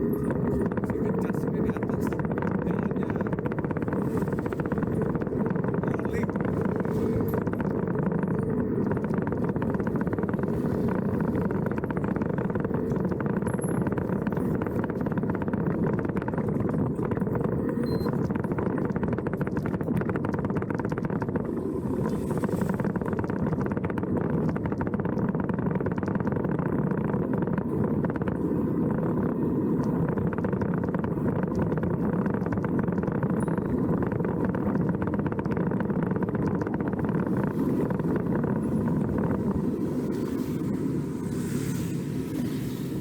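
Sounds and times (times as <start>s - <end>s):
faint steady tone: 0.0s - 43.0s
vehicle engine running: 0.0s - 43.0s.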